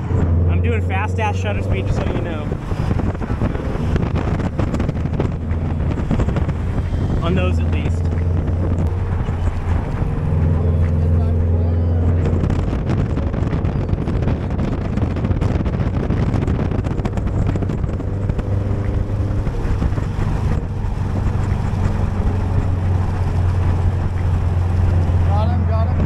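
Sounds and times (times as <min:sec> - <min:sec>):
car engine hum: 0:00.0 - 0:26.0
road noise: 0:00.0 - 0:26.0
wind buffeting microphone: 0:00.0 - 0:26.0.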